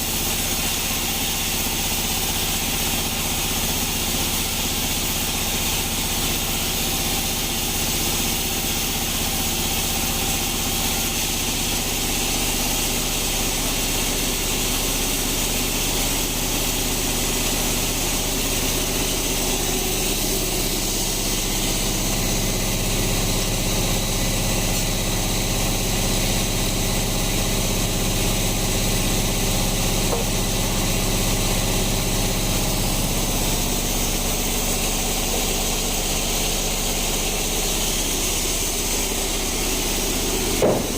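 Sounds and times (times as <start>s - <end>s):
bandsaw machinery drone: 1.6s - 40.9s.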